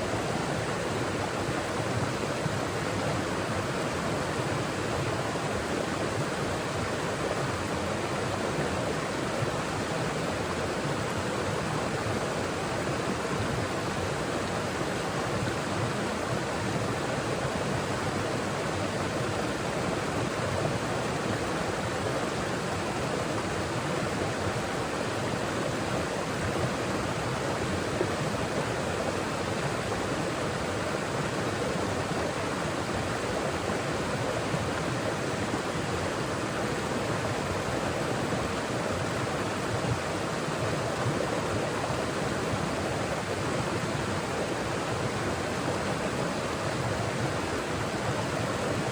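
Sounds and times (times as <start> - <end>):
stream flowing over rocks: 0.0 - 48.9.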